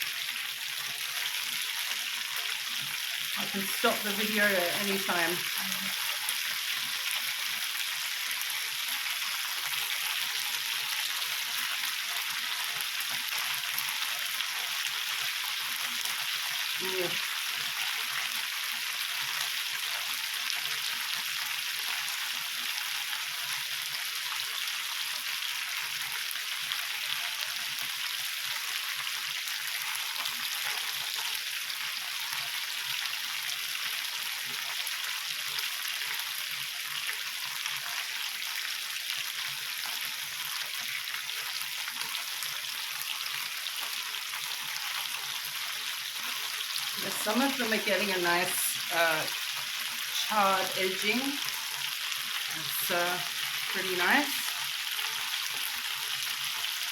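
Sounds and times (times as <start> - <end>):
meat sizzling on a grill: 0.0 - 56.9.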